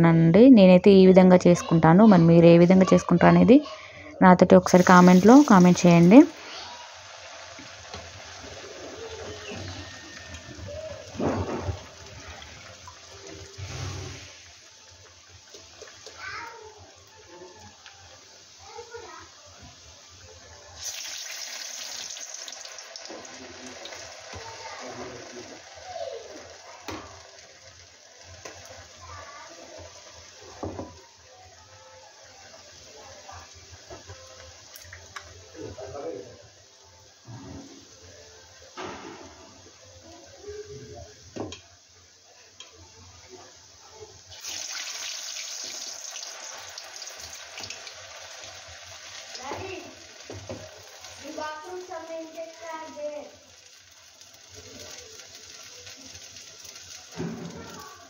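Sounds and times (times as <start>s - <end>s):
batter sizzling in hot oil: 1.8s - 58.0s
oil bubbling hiss: 3.0s - 58.0s.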